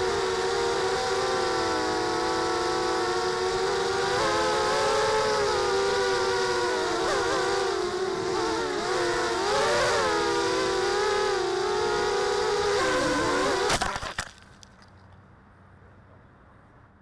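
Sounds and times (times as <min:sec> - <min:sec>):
drone motors buzzing whine: 0:00.0 - 0:14.3.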